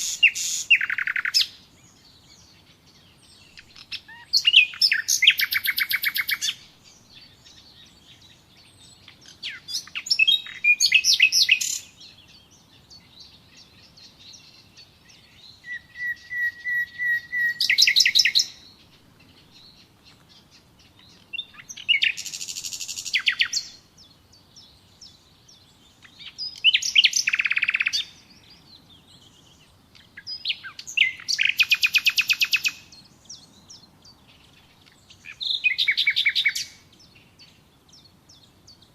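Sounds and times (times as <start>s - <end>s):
songbird trilling song: 0.0s - 38.9s.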